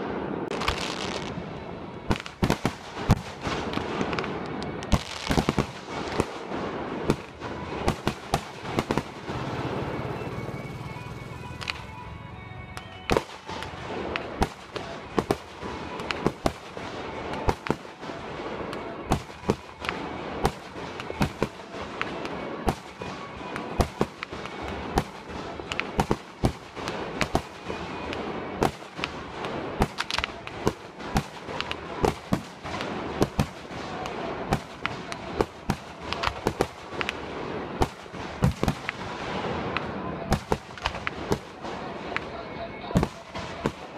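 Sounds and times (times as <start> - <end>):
fireworks bursting with sharp bangs: 0.0 - 12.0, 12.7 - 43.9.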